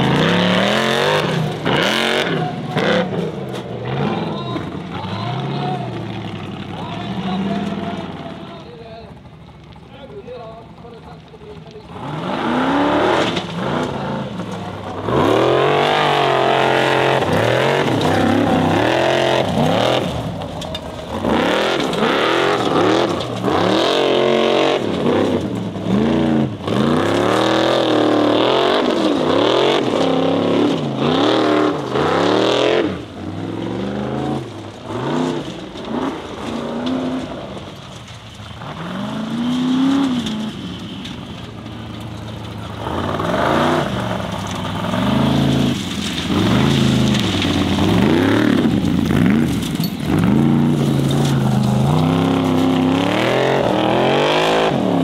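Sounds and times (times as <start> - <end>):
buggy engine revving hard: 0.0 - 9.4, 11.8 - 55.0.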